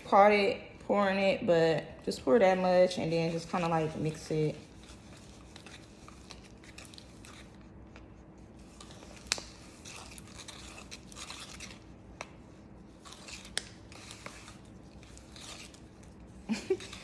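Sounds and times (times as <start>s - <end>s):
scraping and swishing in a bowl: 2.4s - 17.0s.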